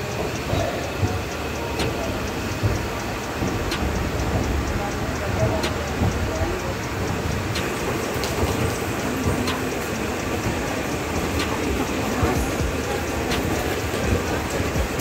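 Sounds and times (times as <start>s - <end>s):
train coaches rumbling: 0.0s - 15.0s
wheels clicking over rail joints: 0.0s - 15.0s.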